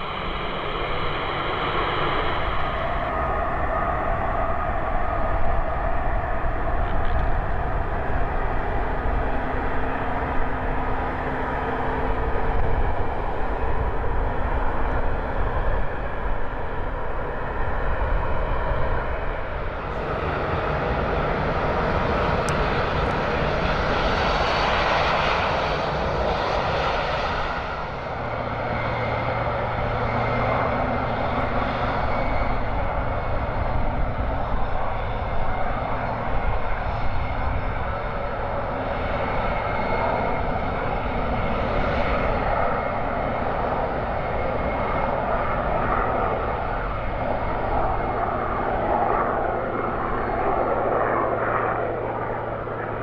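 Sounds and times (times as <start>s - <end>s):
jet airliner engine noise: 0.0s - 53.0s.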